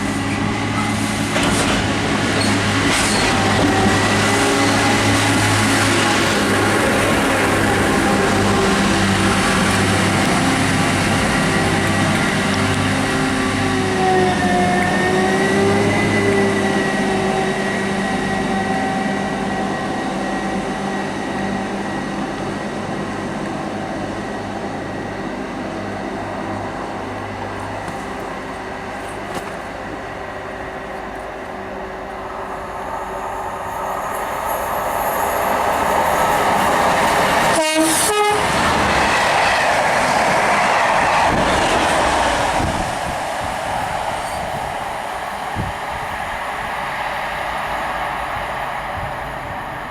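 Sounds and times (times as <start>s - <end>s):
train engine running: 0.0s - 49.9s.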